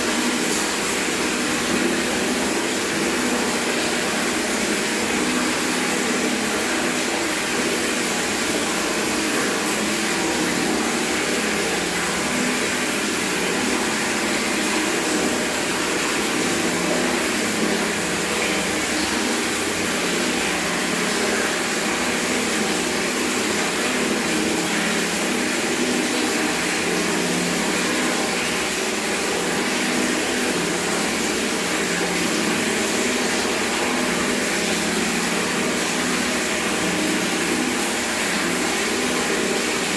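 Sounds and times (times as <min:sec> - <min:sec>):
tap water running into bucket: 0:00.0 - 0:39.9.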